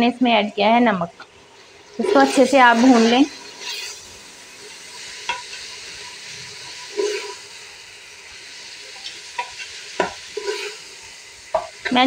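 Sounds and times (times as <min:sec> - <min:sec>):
minced meat sizzling: 0:00.0 - 0:12.0.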